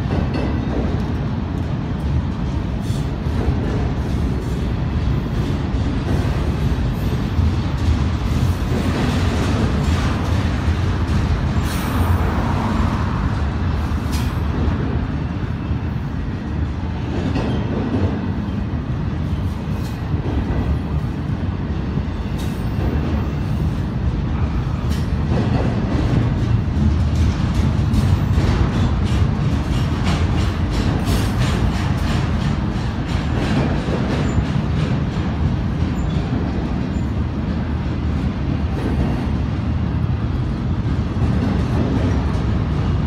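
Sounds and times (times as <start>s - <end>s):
steel wheels rumbling on rail: 0.0s - 43.0s.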